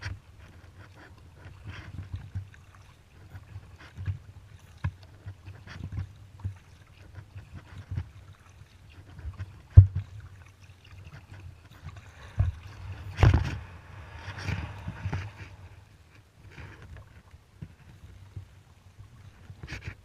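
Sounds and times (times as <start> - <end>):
paddle splashing through water: 0.0 - 20.0.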